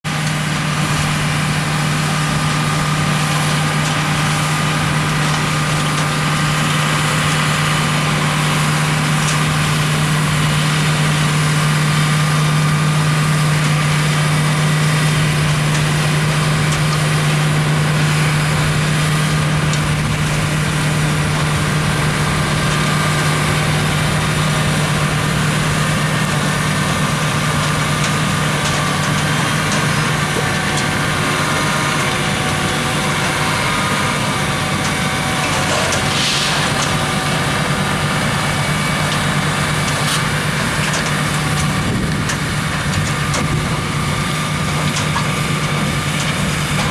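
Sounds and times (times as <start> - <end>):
harvester machinery running: 0.0 - 46.9
tractor diesel engine humming: 0.0 - 46.9.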